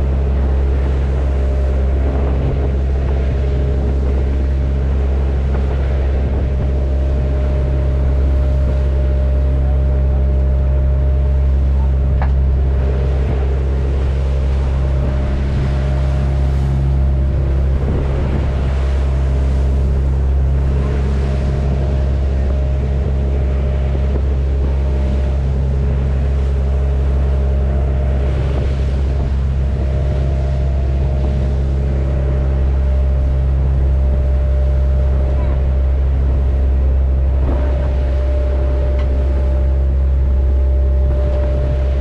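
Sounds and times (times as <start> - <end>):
boat engine droning: 0.0 - 42.0
waves splashing against hull: 0.0 - 42.0
wind buffeting microphone: 0.0 - 42.0.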